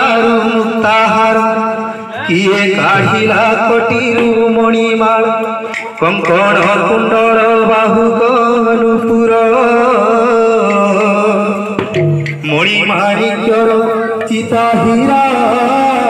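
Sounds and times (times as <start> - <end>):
man singing into microphone: 0.0 - 16.0.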